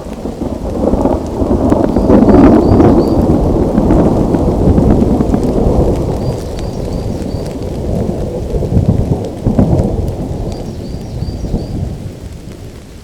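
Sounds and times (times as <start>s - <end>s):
rolling thunder: 0.0s - 13.0s
steady rain: 0.0s - 13.0s.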